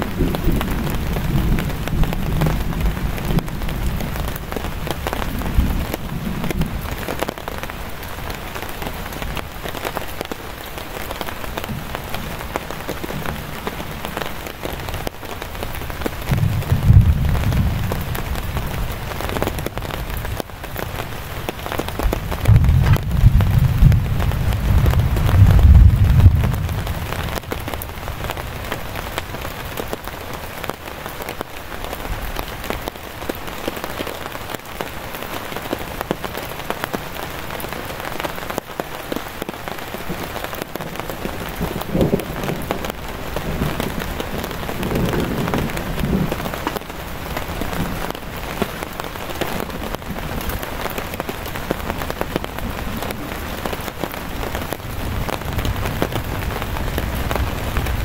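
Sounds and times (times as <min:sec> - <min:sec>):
heavy rain on a tarp: 0:00.0 - 0:58.0.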